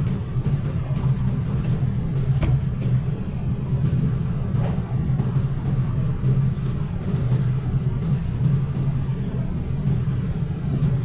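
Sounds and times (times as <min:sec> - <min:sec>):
low machine rumble: 0:00.0 - 0:11.0.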